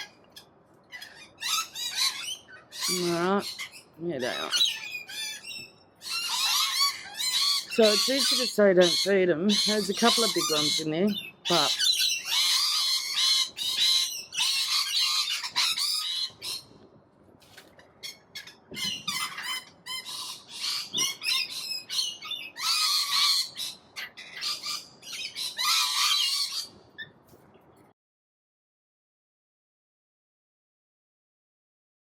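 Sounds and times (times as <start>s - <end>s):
parrots screeching: 0.0s - 16.7s, 18.0s - 27.1s
parrots chirping: 0.0s - 16.8s, 17.9s - 27.1s.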